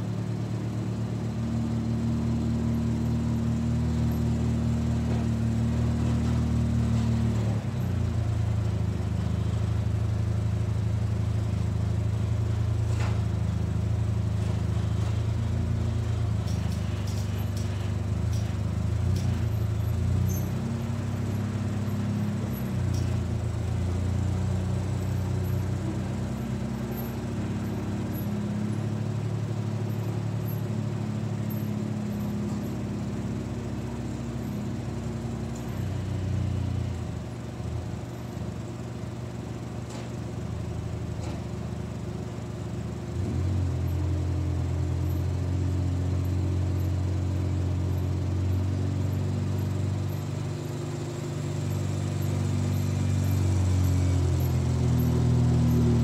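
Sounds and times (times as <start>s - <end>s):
atv engine running: 0.0s - 39.3s, 43.0s - 56.0s.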